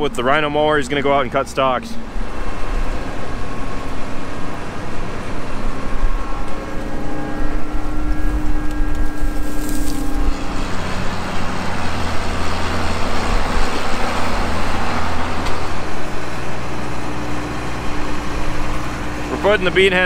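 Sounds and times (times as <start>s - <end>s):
combine engine running: 0.0s - 20.0s
tractor driving past: 0.0s - 20.0s.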